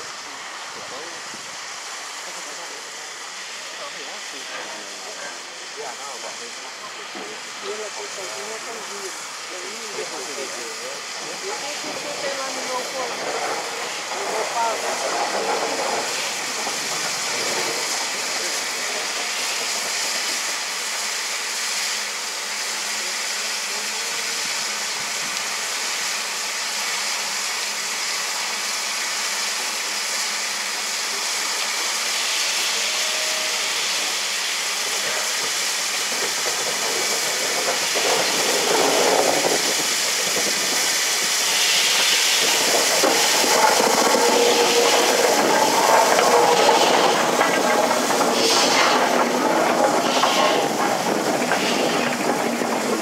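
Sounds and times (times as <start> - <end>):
locomotive wheels on rails: 0.0 - 53.0
steam hissing: 0.0 - 53.0.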